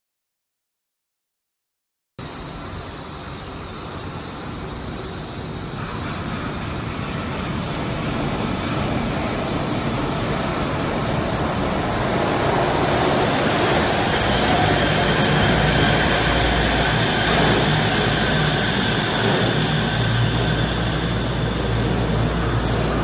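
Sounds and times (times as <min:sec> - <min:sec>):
monorail train rushing rumble: 0:02.2 - 0:23.0
road traffic: 0:02.2 - 0:23.0.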